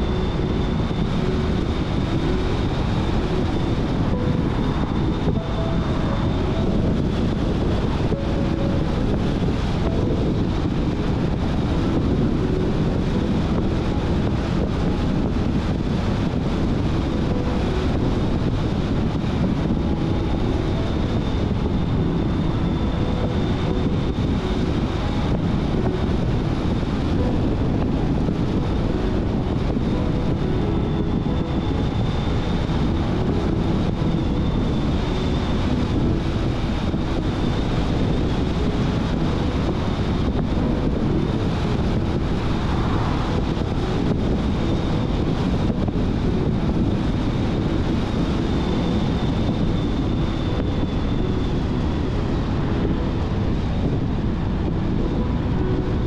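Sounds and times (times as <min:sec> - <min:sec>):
car driving wind and tyre noise: 0:00.0 - 0:56.0
wind buffeting microphone: 0:00.0 - 0:56.0.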